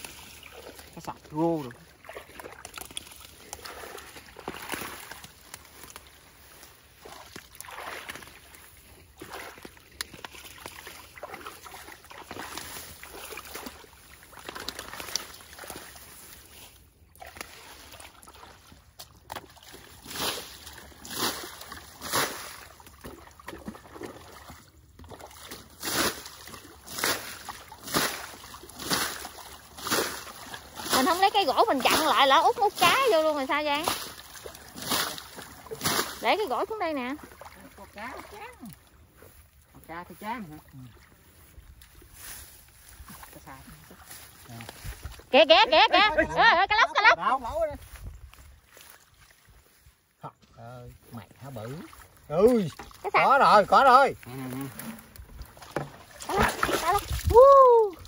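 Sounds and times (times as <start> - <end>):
ditch water sloshing and splashing: 0.0 - 58.0.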